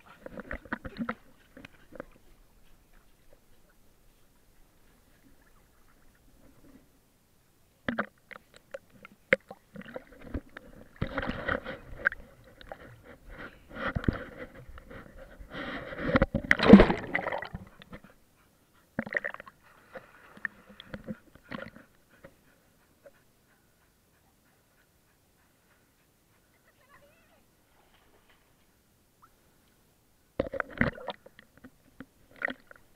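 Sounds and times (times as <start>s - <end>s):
water splashing and sloshing: 0.0s - 7.0s, 7.8s - 23.2s, 27.6s - 29.8s, 30.4s - 32.9s.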